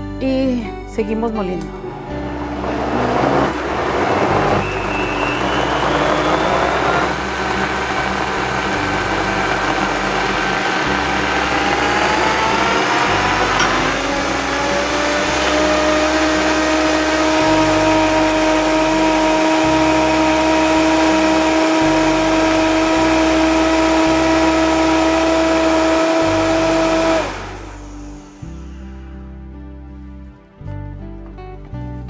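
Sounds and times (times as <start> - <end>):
soft guitar music: 0.0 - 25.0, 26.2 - 32.0
blender motor grinding: 2.1 - 28.9.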